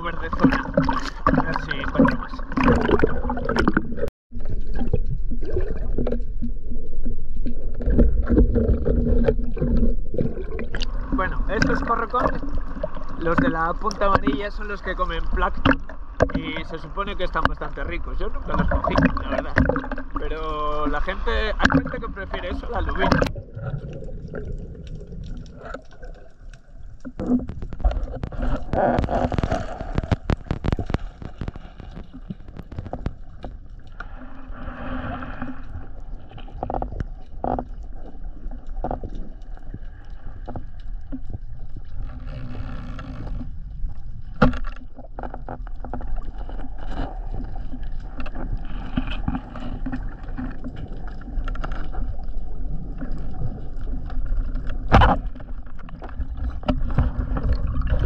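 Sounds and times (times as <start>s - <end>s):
underwater clicks and knocks: 0.0s - 34.4s, 35.0s - 58.0s
muffled underwater rumble: 0.0s - 58.0s.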